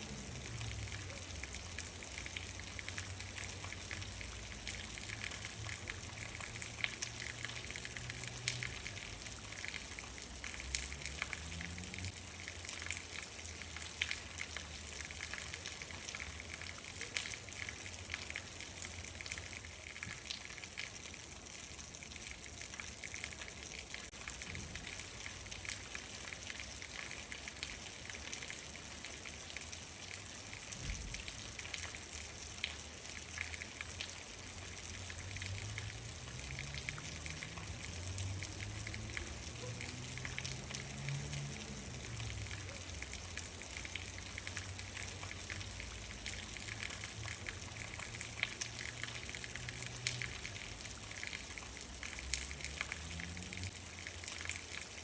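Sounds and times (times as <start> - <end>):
raindrops pattering and splashing: 0.0 - 55.0.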